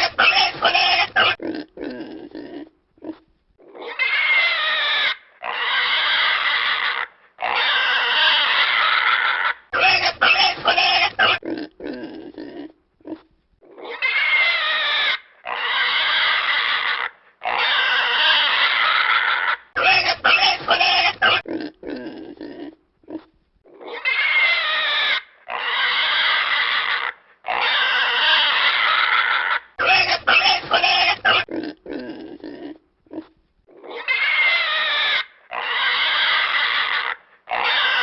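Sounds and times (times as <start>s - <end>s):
pig squealing and grunting: 0.0s - 38.0s.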